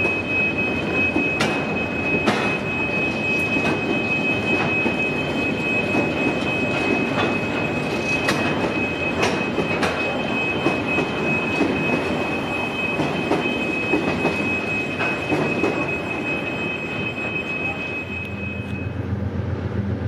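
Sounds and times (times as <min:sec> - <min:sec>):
high-pitched wheel squeal: 0:00.0 - 0:19.1.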